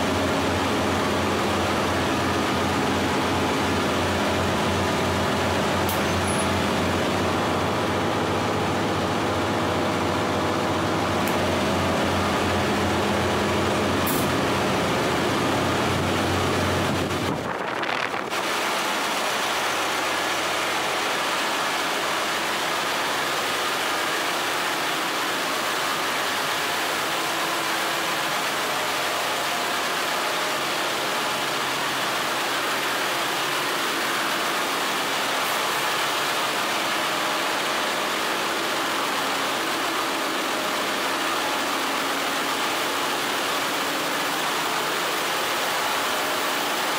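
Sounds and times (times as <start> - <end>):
engine room machinery: 0.0 - 46.9.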